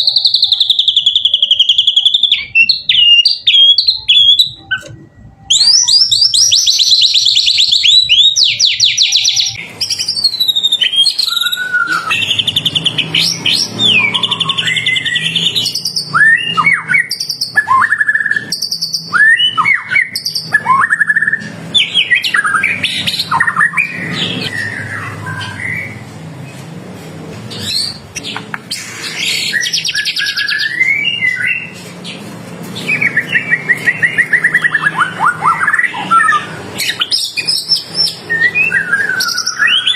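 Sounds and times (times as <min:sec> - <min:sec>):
songbird singing: 0:00.0 - 0:26.1, 0:27.5 - 0:39.9.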